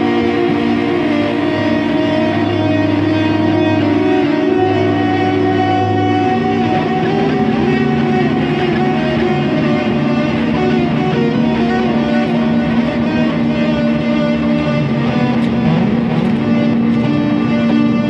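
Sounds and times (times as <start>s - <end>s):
droning experimental music: 0.0s - 18.0s
low hum: 0.0s - 18.0s.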